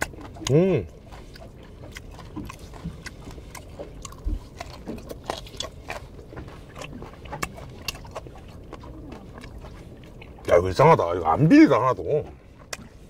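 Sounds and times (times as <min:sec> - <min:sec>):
fish bones crunching while chewing: 0:00.0 - 0:13.0.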